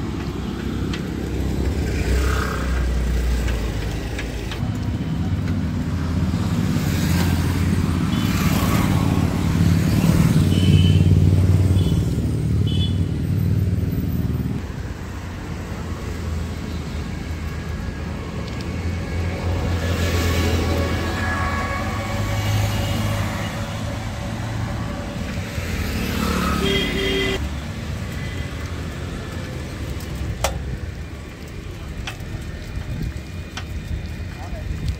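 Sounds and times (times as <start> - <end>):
road and wind noise: 0.0 - 34.9.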